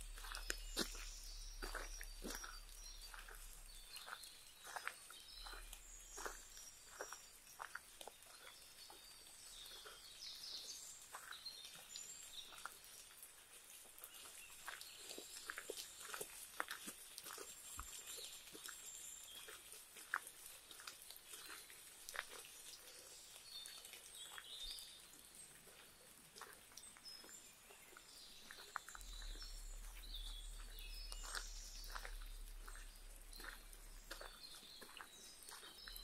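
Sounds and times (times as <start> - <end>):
birds chirping: 0.0 - 13.3, 13.9 - 36.0
footsteps on wet dirt path: 0.0 - 36.0.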